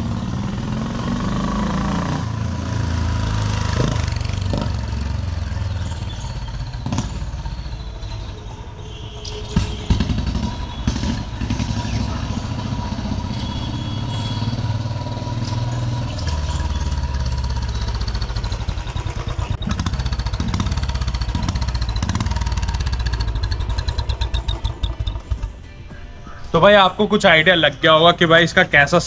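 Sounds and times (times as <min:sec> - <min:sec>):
motorcycle engine thumping: 0:00.0 - 0:26.2
exhaust whistling tone: 0:00.0 - 0:29.0.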